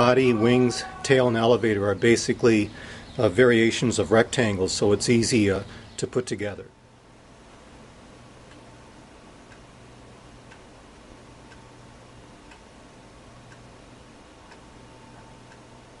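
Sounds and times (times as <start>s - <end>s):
faint ticking: 0.0s - 16.0s
low steady hum: 0.0s - 16.0s.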